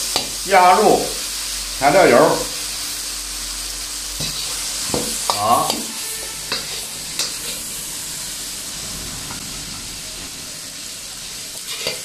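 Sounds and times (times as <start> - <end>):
green beans sizzling in a wok: 0.0 - 12.0.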